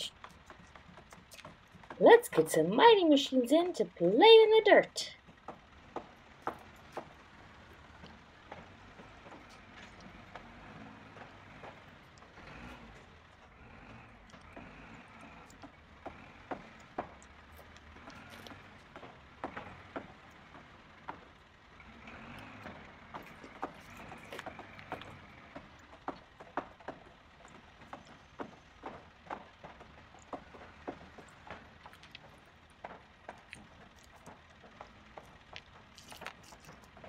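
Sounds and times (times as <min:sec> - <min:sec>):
toy trucks clicking and knocking: 0:00.0 - 0:37.0.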